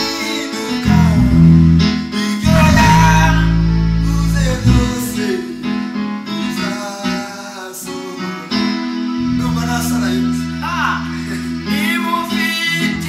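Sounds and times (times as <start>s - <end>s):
gospel instrumental backing: 0.0s - 13.0s
person singing: 0.0s - 13.0s.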